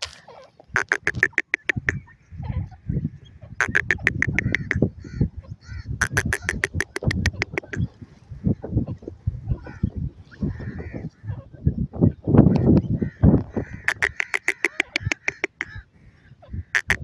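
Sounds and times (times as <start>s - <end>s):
francolins chattering calls: 0.2s - 17.0s.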